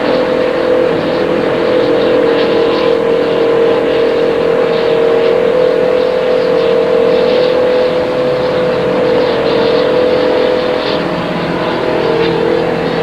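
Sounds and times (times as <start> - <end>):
loud machine drone: 0.0 - 13.0.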